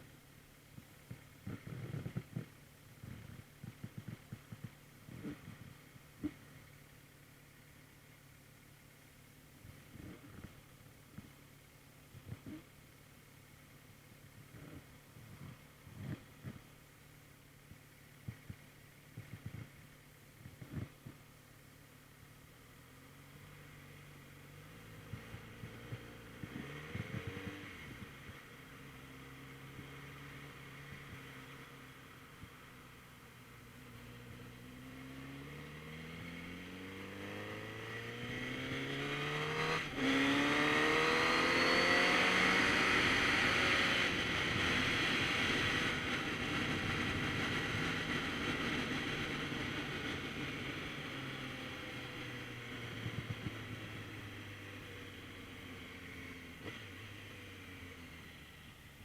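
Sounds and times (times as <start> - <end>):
motorcycle engine revving: 0.7 - 6.9, 9.6 - 12.9, 14.2 - 21.2, 22.3 - 59.0.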